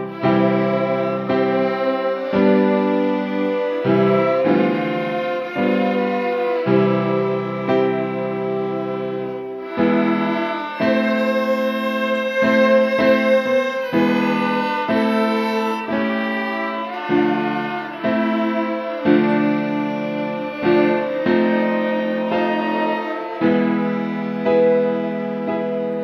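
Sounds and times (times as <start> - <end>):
bowed cello: 0.0 - 26.0
small orchestra playing: 0.0 - 26.0.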